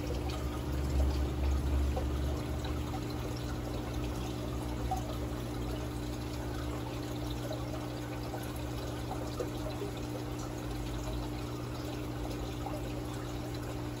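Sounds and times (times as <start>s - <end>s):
low steady hum: 0.0s - 14.0s
water trickling: 0.0s - 14.0s.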